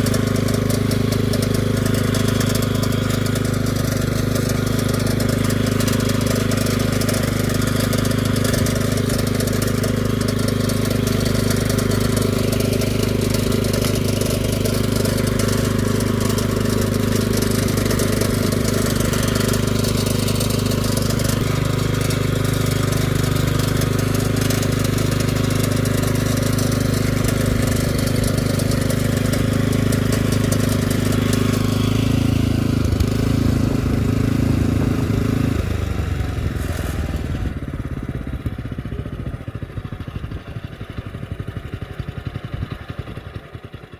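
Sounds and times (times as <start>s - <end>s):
cultivator engine running: 0.0s - 43.9s.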